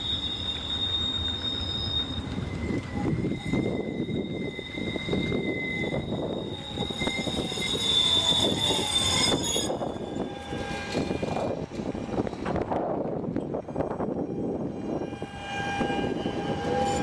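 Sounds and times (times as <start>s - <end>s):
tram rumble passing: 0.0s - 17.0s
tram wheels squealing: 0.0s - 17.0s.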